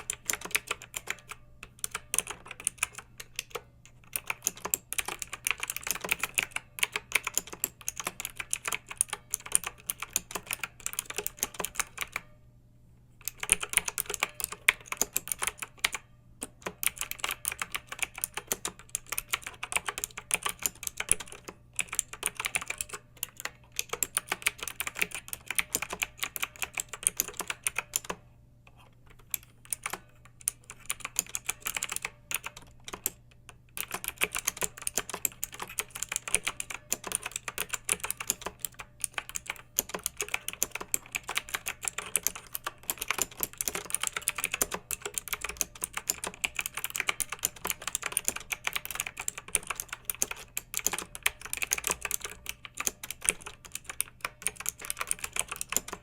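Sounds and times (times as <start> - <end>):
mechanical keyboard typing: 0.0 - 12.4, 13.2 - 56.0.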